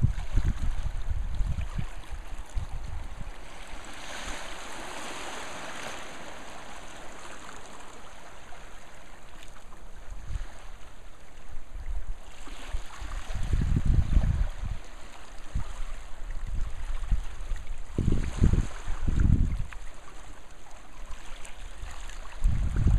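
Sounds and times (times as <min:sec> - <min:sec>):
waves lapping over rocks: 0:00.0 - 0:22.9.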